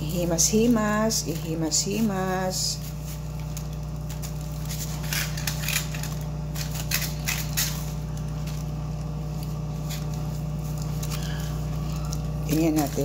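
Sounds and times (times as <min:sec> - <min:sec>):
foil and plastic glove crinkling: 0:00.0 - 0:13.0
steady low hum: 0:00.0 - 0:13.0.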